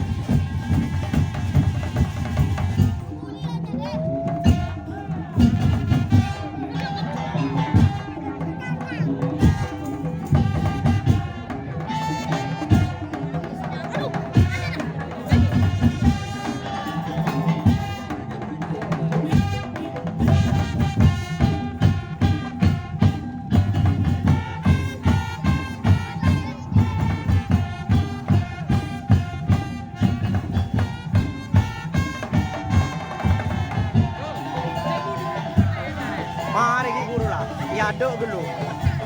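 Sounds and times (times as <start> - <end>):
drums and slit drums beat: 0.0 - 39.0.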